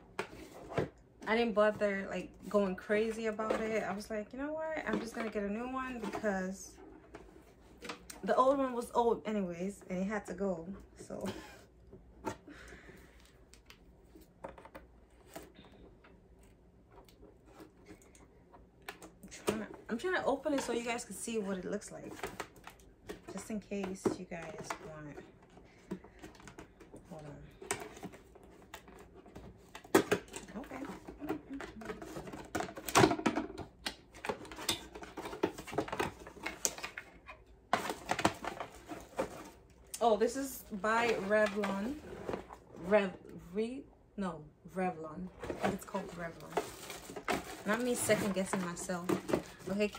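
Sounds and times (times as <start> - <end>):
cardboard and paper packaging rustling: 0.0 - 8.9, 12.5 - 43.1, 45.3 - 49.9.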